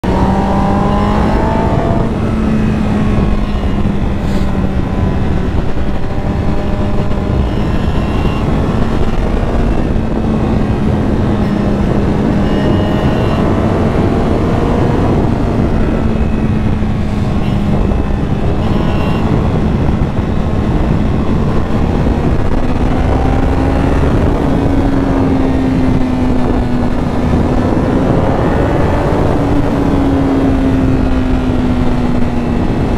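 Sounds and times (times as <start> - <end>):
motorcycle engine running: 0.0 - 32.9
wind and road noise: 0.0 - 32.9.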